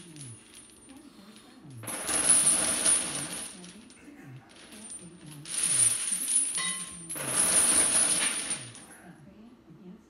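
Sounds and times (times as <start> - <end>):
steel chains clinking and rattling: 0.0 - 9.0.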